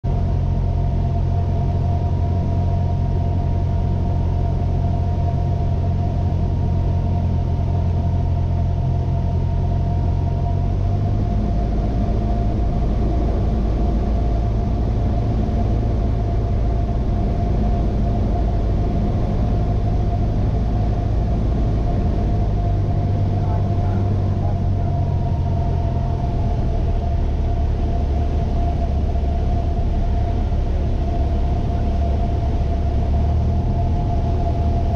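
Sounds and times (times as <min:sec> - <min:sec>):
airplane engine and propeller droning: 0:00.0 - 0:34.9.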